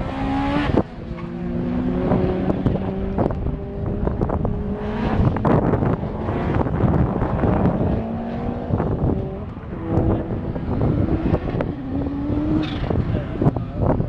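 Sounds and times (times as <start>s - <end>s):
car engine accelerating: 0.0s - 14.0s
wind buffeting microphone: 0.0s - 14.0s.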